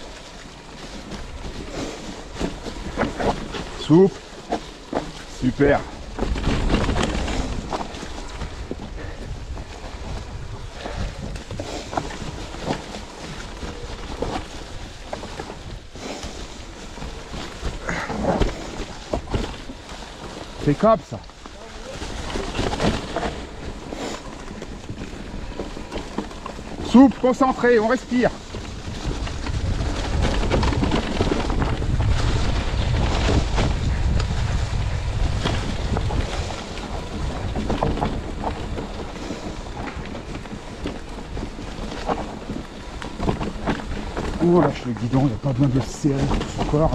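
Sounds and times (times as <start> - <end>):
bike knocking and rattling: 0.0 - 46.9
tyres crunching over leaves and stones: 0.0 - 46.9
wind rumble on microphone: 0.0 - 46.9.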